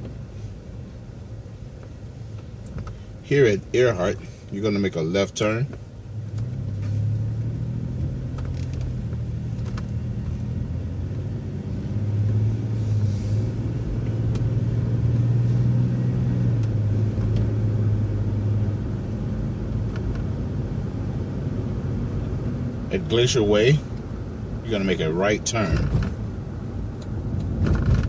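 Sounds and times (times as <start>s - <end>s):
bus engine droning: 0.0s - 28.0s.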